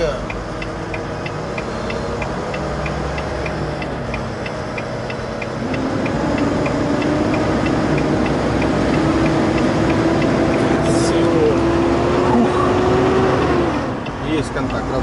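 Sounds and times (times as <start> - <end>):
turn signal relay ticking: 0.0 - 11.7, 13.8 - 15.0
truck diesel engine running: 0.0 - 15.0.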